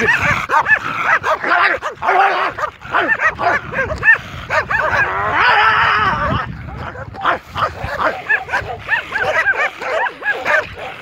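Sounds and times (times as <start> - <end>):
dog yelping: 0.0 - 5.6, 6.2 - 11.0
dogs barking aggressively: 0.0 - 11.0.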